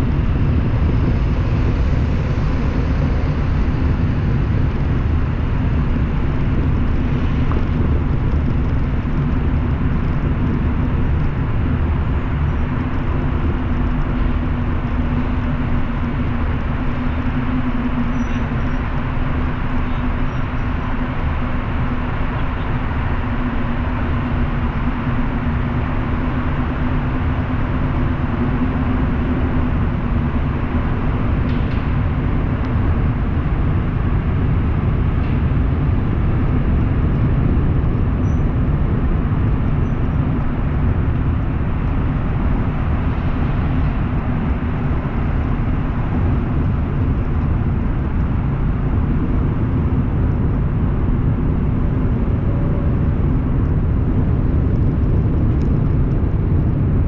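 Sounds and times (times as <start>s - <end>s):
car road noise: 0.0s - 57.0s
low steady hum: 0.0s - 57.0s.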